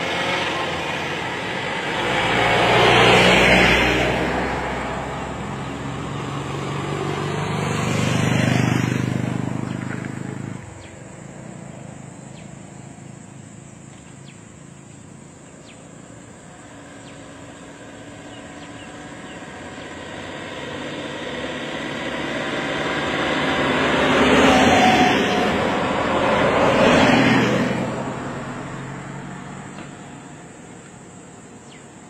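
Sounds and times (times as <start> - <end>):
hum of approaching vehicles: 0.0 - 32.0
insect buzz: 0.0 - 32.0
vehicle engine: 0.0 - 32.0.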